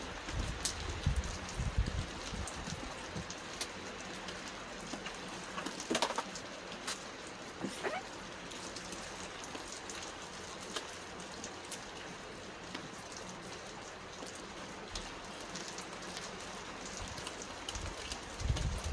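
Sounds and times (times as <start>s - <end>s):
sharp water drips: 0.0s - 18.9s
steady rain on pavement: 0.0s - 18.9s.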